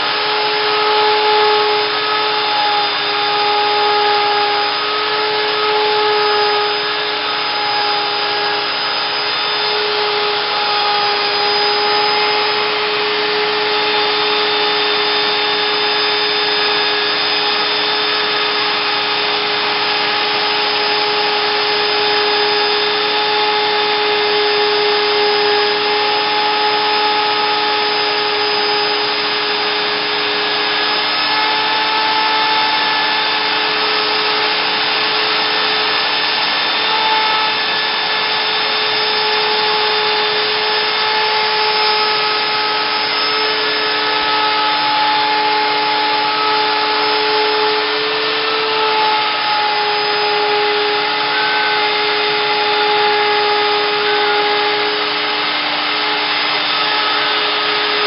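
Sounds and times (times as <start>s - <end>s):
router spindle whining: 0.0s - 58.0s
vacuum hose sucking: 0.0s - 58.0s.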